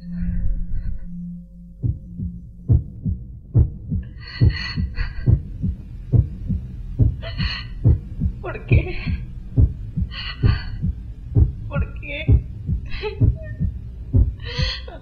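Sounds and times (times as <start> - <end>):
heartbeat thumps: 1.8 - 15.0.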